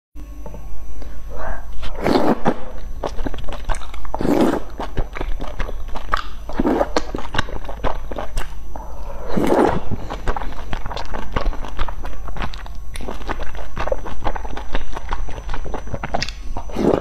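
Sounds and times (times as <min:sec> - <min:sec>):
person slurping noodles: 0:01.4 - 0:08.4, 0:09.0 - 0:15.5, 0:16.6 - 0:17.0
wet chewing mouth clicks: 0:01.8 - 0:08.6, 0:09.3 - 0:17.0.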